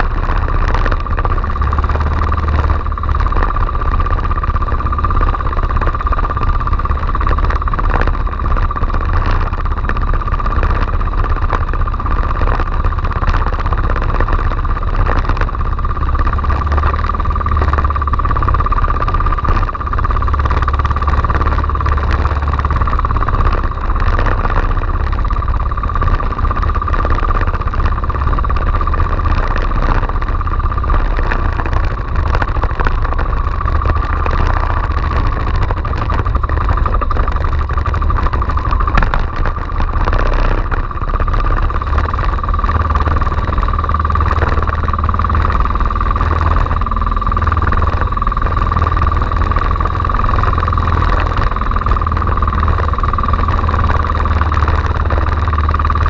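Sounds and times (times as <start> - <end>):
boat engine whining and rumbling: 0.0 - 56.0
wind: 0.0 - 56.0.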